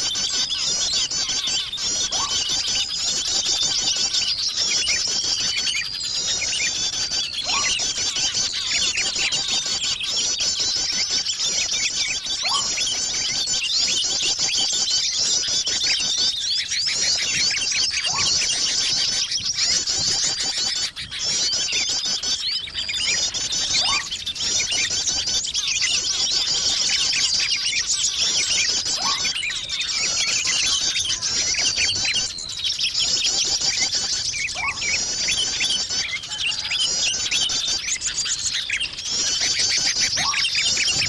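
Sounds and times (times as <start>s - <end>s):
small songbirds twittering: 0.0s - 41.0s.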